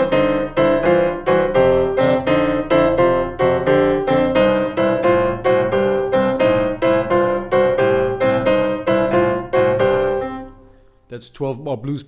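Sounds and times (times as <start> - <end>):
boogie-woogie piano: 0.0 - 10.5.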